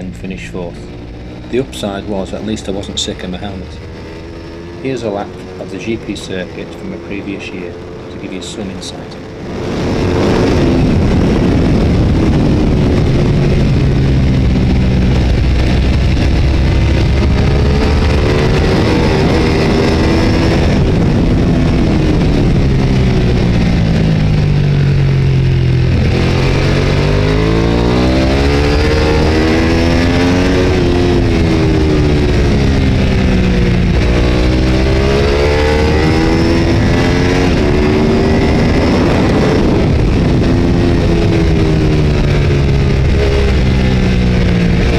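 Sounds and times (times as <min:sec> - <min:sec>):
racing motorcycle engine revving: 0:00.0 - 0:44.9
wind noise: 0:00.0 - 0:44.9.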